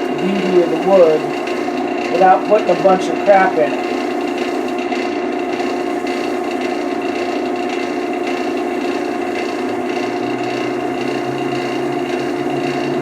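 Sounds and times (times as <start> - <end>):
low hum: 0.0 - 13.0
rubbing against spinning wood: 0.0 - 13.0
wood lathe humming and whining: 0.0 - 13.0.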